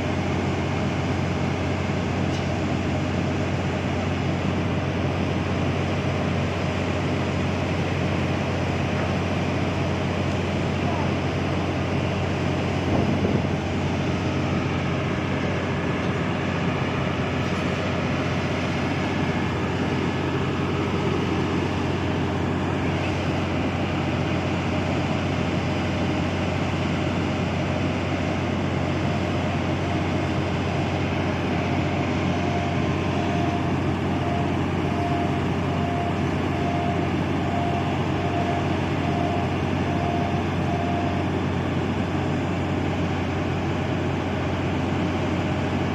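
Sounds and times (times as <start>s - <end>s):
boat engine droning: 0.0s - 45.9s.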